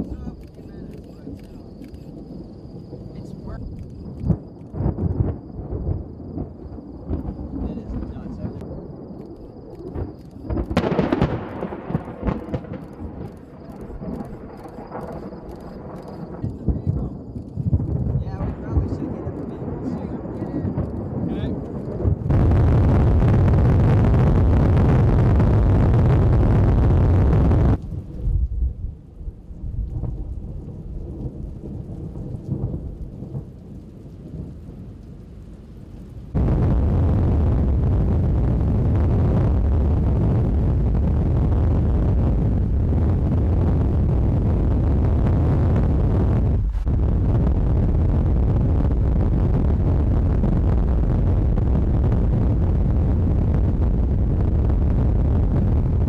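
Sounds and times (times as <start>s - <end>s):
thunder rumbling: 0.0s - 56.0s
wind buffeting microphone: 0.0s - 56.0s.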